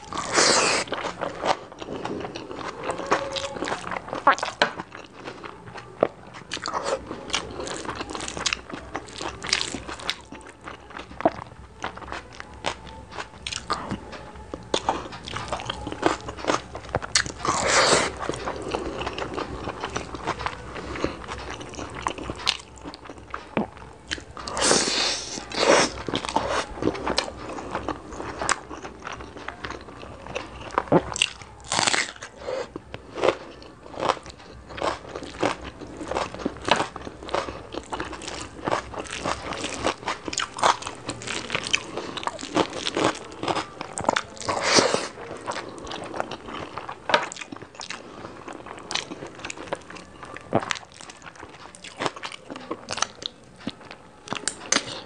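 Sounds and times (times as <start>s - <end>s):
chewing and wet mouth sounds: 0.0s - 55.0s.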